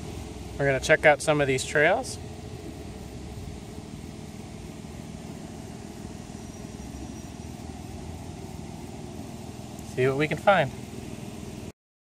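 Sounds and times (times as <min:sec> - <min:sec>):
low rumbling noise: 0:00.0 - 0:11.7.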